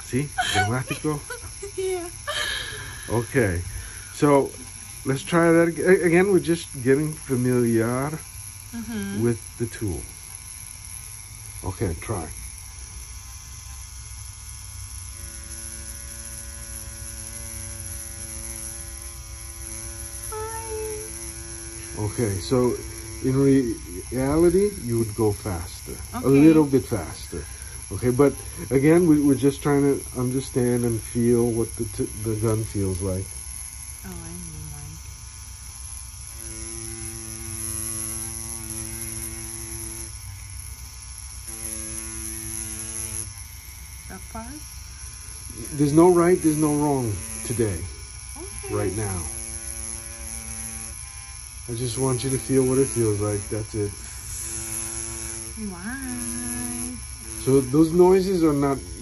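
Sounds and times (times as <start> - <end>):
tattoo pen humming: 0.0 - 59.0.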